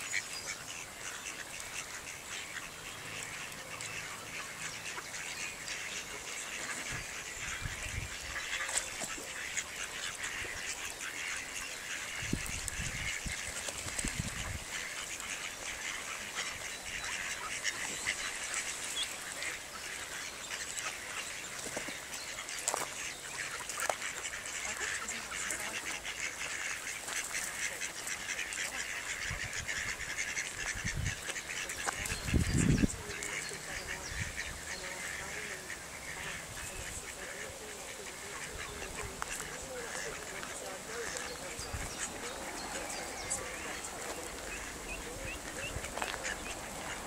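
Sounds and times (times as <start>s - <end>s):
ducks quacking: 0.0s - 47.0s.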